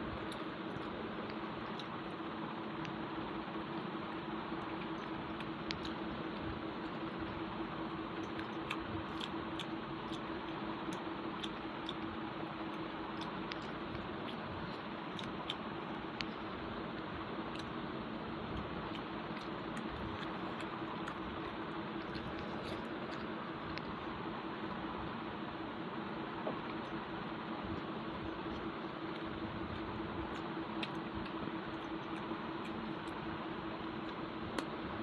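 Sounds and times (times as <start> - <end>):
steady hiss and low hum: 0.0 - 35.0
person chewing food: 0.1 - 3.0, 4.0 - 25.0, 26.5 - 34.8.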